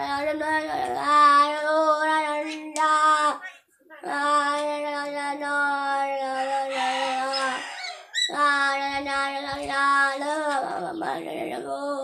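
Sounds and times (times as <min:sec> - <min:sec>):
boy singing: 0:00.0 - 0:12.0.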